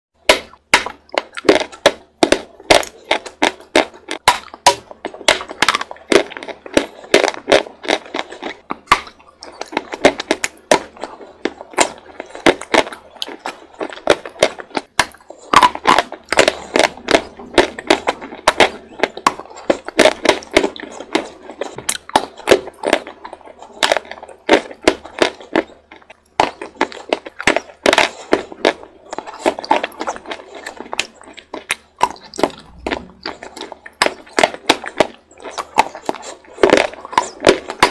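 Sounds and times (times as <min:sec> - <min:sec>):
person crunching chalk: 0:00.2 - 0:37.9.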